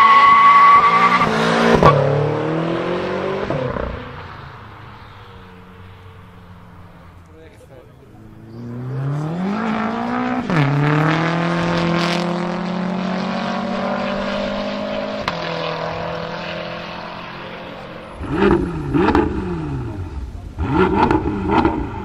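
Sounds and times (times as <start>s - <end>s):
car engine revving in blips: 0.0s - 7.3s, 8.1s - 22.0s
car engine at full throttle: 0.0s - 22.0s.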